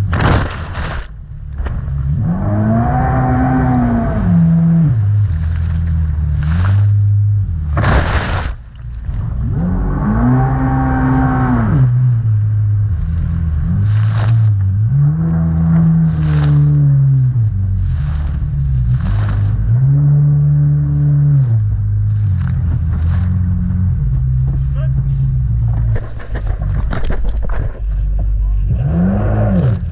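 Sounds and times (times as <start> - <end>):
jet ski engine revving: 1.9 - 8.5, 9.2 - 26.7.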